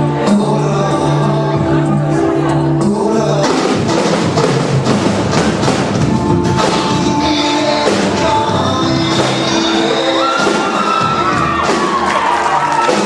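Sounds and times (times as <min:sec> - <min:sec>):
loud music with steady beat: 0:00.0 - 0:13.0.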